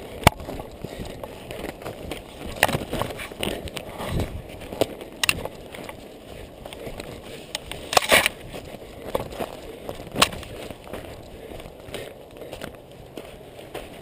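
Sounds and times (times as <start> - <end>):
running footsteps on forest floor: 0.0 - 14.0.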